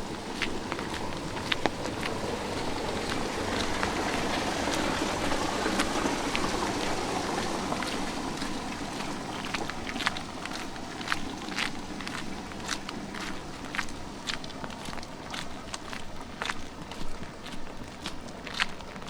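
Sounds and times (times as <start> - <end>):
footsteps: 0.0 - 19.0
light rain: 0.0 - 19.0
vehicle tyres hissing on wet street: 0.0 - 19.0.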